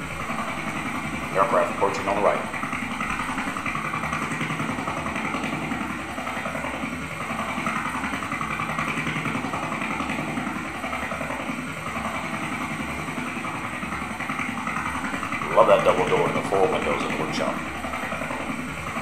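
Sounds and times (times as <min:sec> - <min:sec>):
helicopter rotors whirring: 0:00.0 - 0:19.0.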